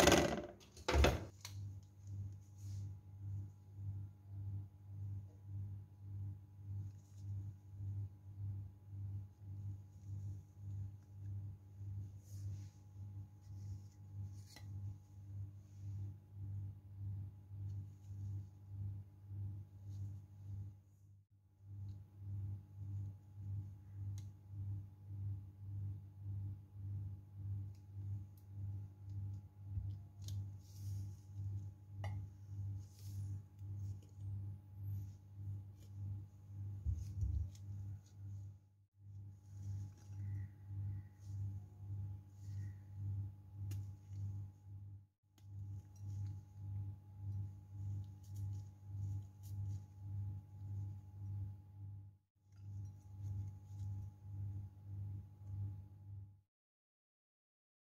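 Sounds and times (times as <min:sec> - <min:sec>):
low pulsing hum: 0:01.6 - 0:56.4.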